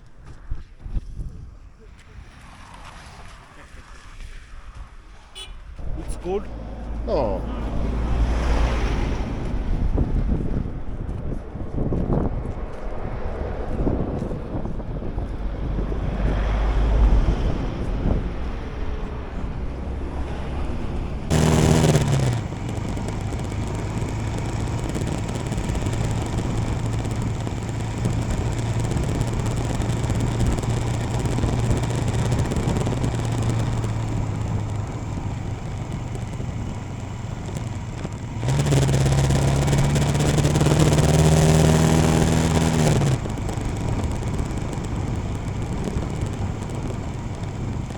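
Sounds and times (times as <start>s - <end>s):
motorcycle engine running: 5.4s - 12.3s, 13.3s - 47.9s
wind on microphone: 5.7s - 47.9s.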